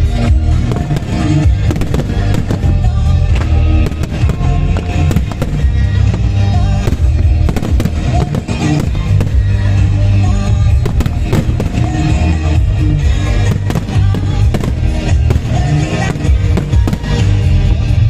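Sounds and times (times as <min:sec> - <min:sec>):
fireworks bangs and crackles: 0:00.0 - 0:18.0
loud music with heavy bass: 0:00.0 - 0:18.0.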